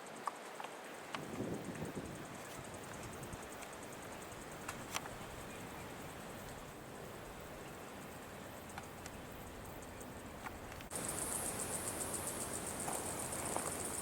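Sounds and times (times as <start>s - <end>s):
insect chirping: 0.0s - 14.0s
steady hiss: 0.0s - 14.0s.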